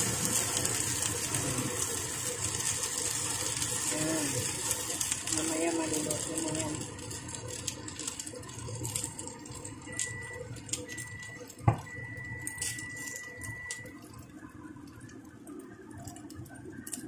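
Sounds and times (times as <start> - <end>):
dumplings sizzling in a pan: 0.0 - 17.0.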